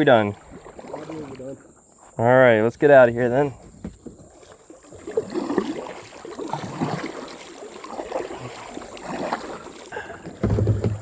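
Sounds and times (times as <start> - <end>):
creek water splashing around kayak: 0.0 - 11.0.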